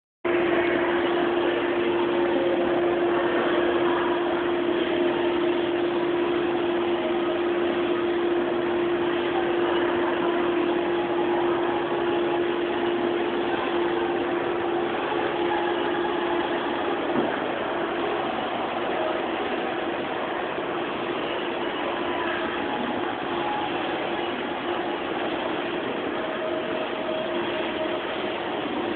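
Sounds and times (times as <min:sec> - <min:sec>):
steady mechanical hum: 0:00.3 - 0:28.9.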